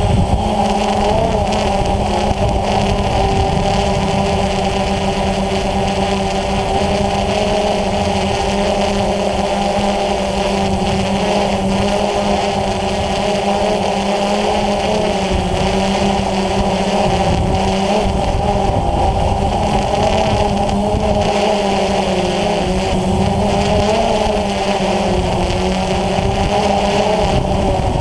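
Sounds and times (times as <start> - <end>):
drone motors buzzing: 0.0 - 28.0.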